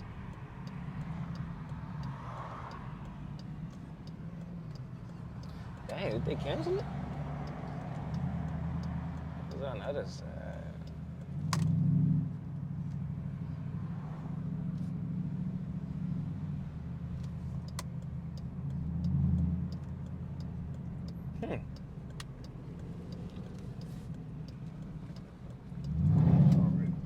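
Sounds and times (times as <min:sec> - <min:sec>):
car engine while driving: 0:00.0 - 0:27.0.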